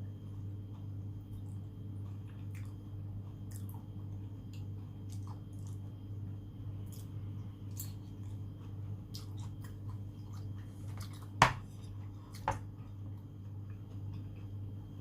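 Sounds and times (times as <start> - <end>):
steady low hum: 0.0 - 15.0
chewing and wet mouth sounds: 0.3 - 15.0.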